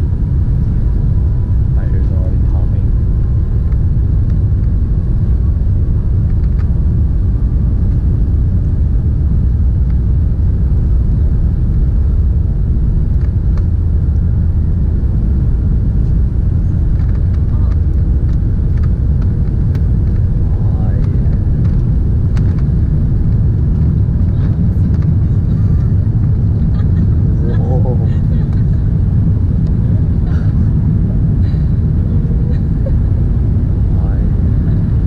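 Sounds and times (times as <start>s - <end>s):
airplane cabin low rumble: 0.0s - 35.0s.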